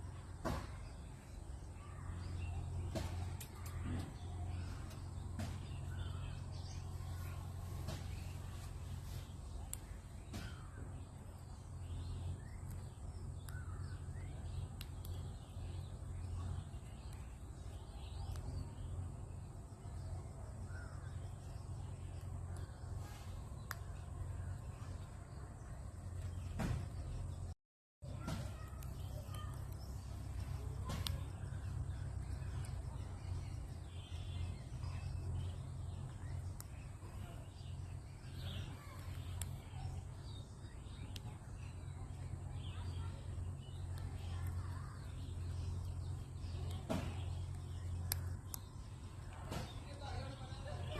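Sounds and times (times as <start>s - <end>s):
faint bird chirps: 0.0s - 50.9s
steady low hum: 0.0s - 50.9s.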